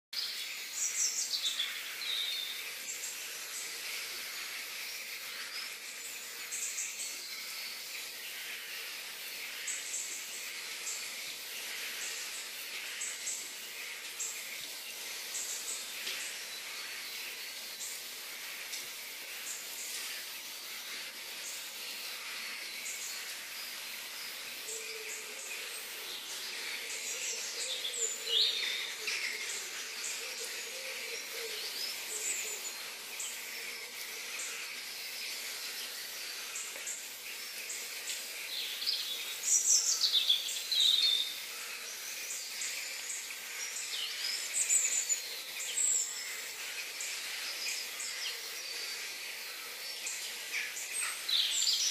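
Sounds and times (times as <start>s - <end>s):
high hiss of insects: 0.2s - 51.9s.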